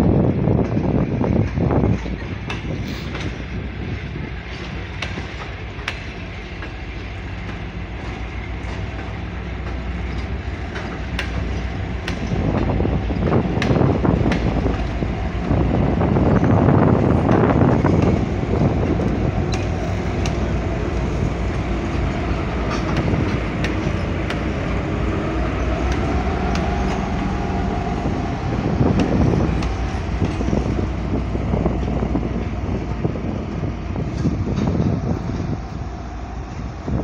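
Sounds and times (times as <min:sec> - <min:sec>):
diesel locomotive engine running: 0:00.0 - 0:37.0
wheels clicking on track: 0:00.4 - 0:37.0.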